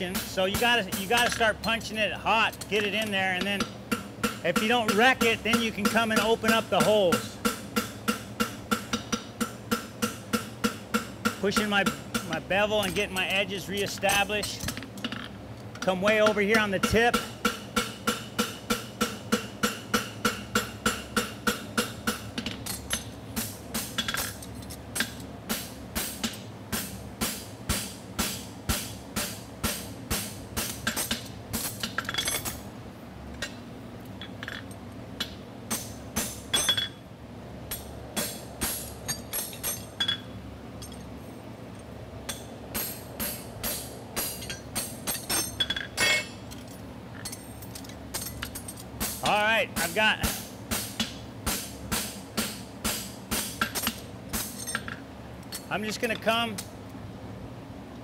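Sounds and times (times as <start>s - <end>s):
hammer striking steel on anvil: 0.0s - 1.8s, 2.5s - 15.2s, 16.1s - 24.4s, 25.0s - 32.6s, 35.2s - 37.0s, 37.7s - 41.0s, 42.3s - 46.4s, 48.2s - 55.0s
cooler fan humming: 0.0s - 58.0s.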